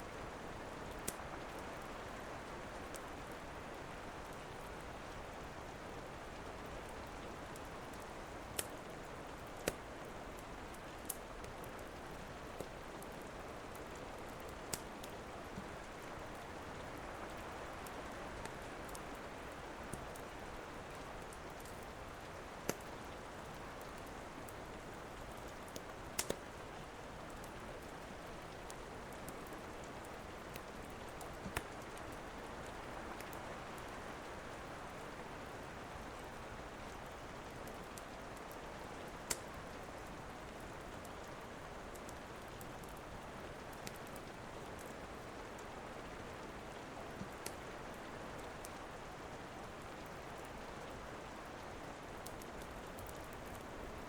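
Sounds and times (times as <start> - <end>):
steady rain hiss: 0.0 - 54.0
wood fire crackling: 0.2 - 2.2, 4.2 - 54.0.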